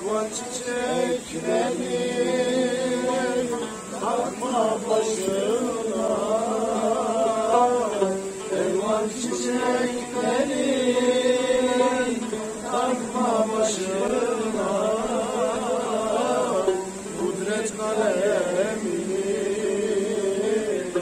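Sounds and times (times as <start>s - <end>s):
person singing slow melody: 0.0s - 21.0s.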